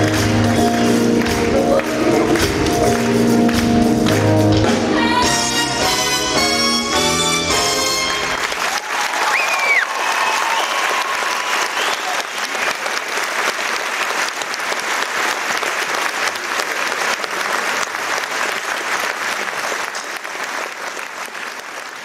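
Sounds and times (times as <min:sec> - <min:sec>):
audience applauding: 0:00.0 - 0:05.0, 0:05.9 - 0:22.0.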